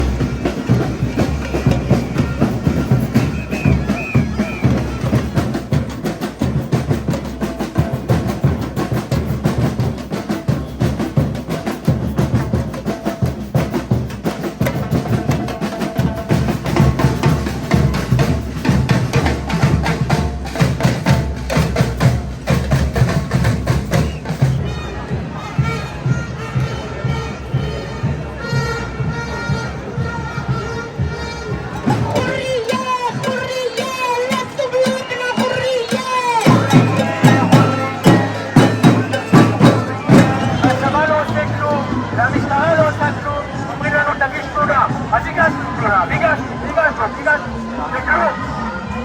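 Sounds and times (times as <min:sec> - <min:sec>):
drummers beating fast rhythm: 0:00.0 - 0:48.6.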